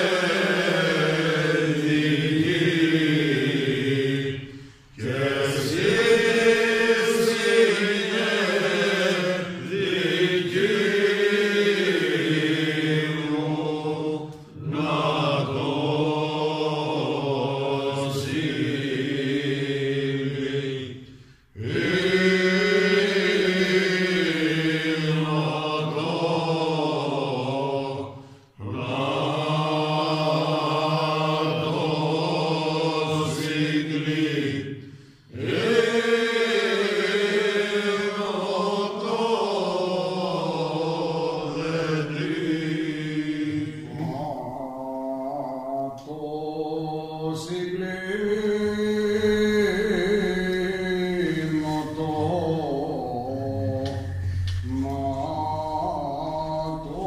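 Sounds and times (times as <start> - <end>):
men singing unaccompanied: 5.0 - 21.0, 21.6 - 34.7, 35.4 - 57.0.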